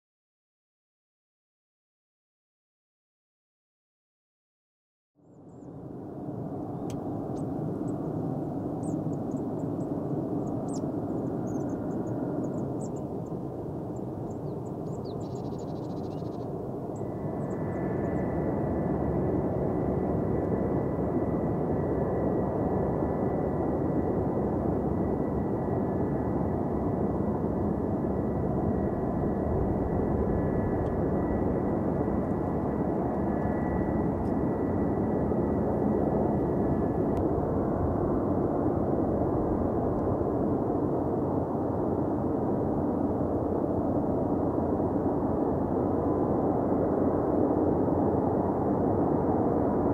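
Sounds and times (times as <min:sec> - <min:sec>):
jet engines rumbling: 0:05.6 - 0:49.9
high engine whine: 0:05.8 - 0:49.9.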